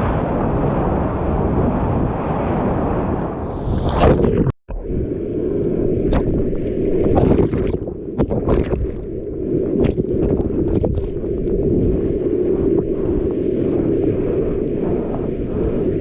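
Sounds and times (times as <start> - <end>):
surf rumbling: 0.0 - 16.0
wind buffeting microphone: 0.0 - 16.0.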